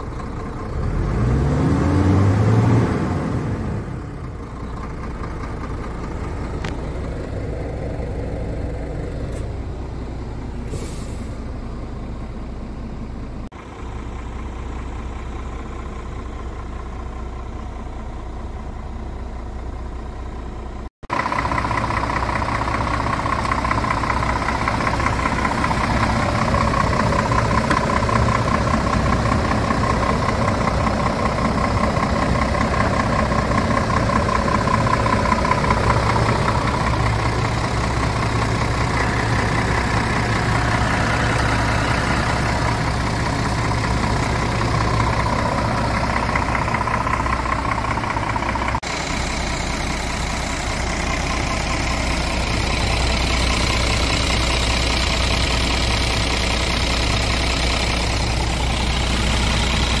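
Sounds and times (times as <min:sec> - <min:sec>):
diesel truck engine idling: 0:00.0 - 1:00.0.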